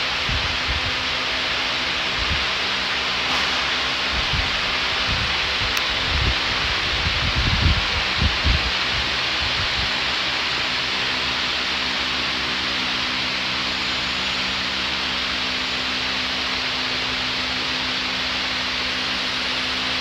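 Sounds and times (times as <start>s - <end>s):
electric fan rushing hiss: 0.0s - 20.0s.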